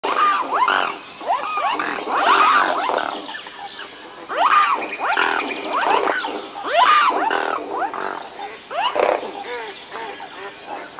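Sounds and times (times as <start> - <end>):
swans honking: 0.0 - 10.9.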